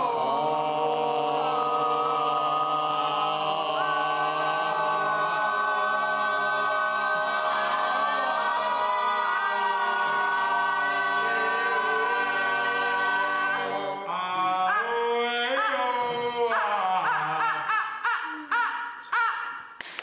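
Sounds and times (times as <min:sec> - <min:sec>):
choir-like vocal music: 0:00.0 - 0:19.8.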